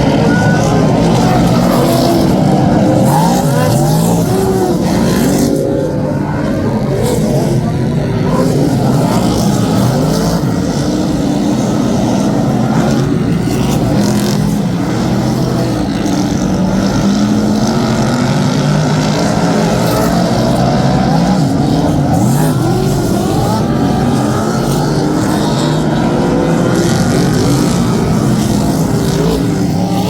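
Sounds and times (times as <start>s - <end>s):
racing car engines roaring: 0.0s - 30.0s.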